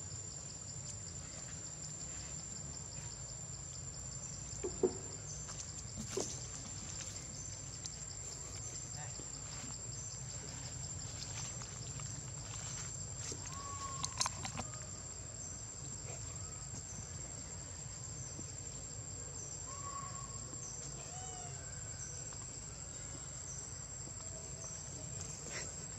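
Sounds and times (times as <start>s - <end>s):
high insect drone: 0.0s - 25.9s.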